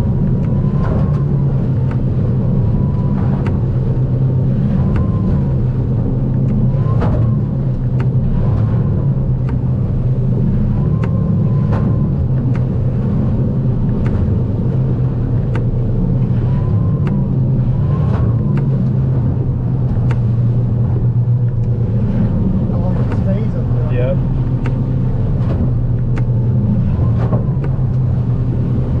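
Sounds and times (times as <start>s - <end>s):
outboard engine hum: 0.0s - 29.0s.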